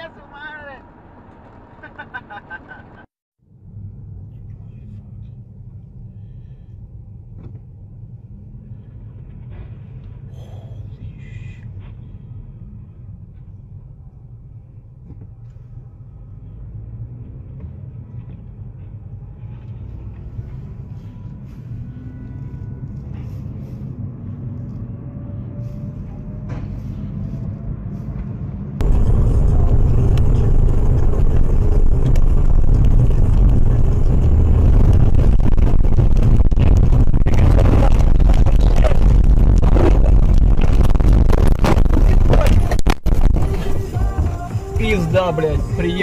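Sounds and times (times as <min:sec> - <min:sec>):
car engine: 0:00.0 - 0:46.0
road rumble: 0:00.0 - 0:46.0.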